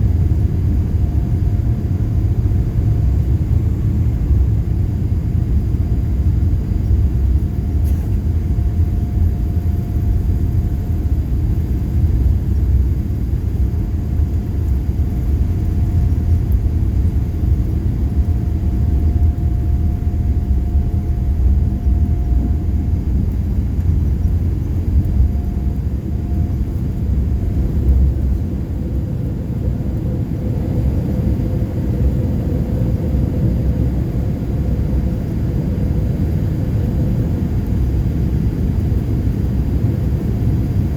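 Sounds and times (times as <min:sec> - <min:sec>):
aircraft cabin rumble: 0:00.0 - 0:40.9
faint hum: 0:00.0 - 0:40.9.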